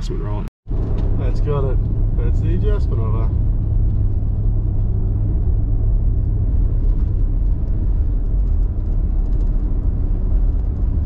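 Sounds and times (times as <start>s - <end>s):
engine and tyre rumble in car cabin: 0.0s - 11.0s.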